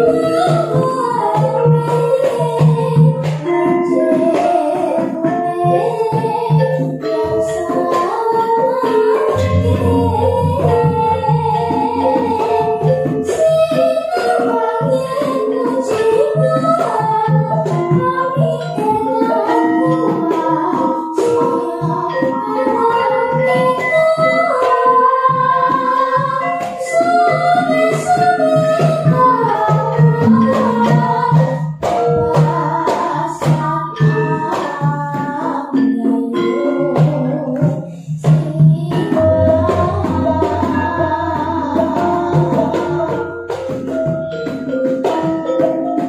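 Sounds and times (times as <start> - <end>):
drum strokes: 0.0 - 46.0
girl singing into a microphone: 0.0 - 46.0
metallophone tones: 0.0 - 46.0.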